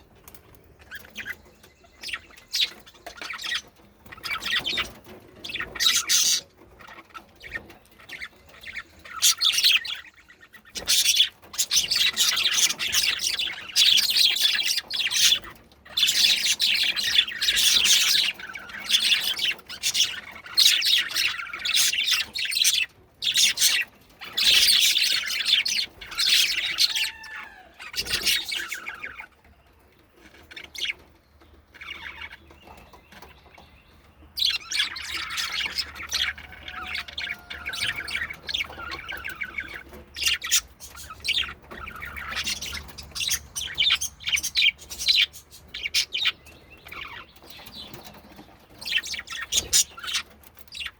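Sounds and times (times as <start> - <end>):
budgerigars chirping and warbling: 0.0 - 50.9.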